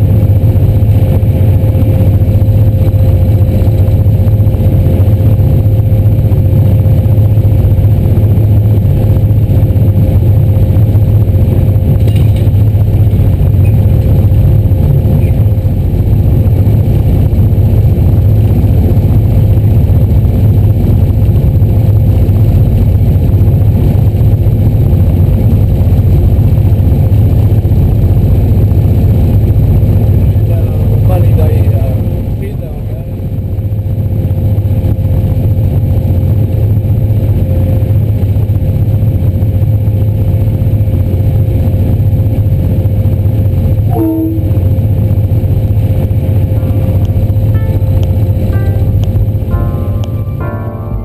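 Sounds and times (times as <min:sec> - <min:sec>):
thin steady hum: 0:00.0 - 0:40.7, 0:42.8 - 0:51.0
train rumble from on board: 0:00.0 - 0:51.0.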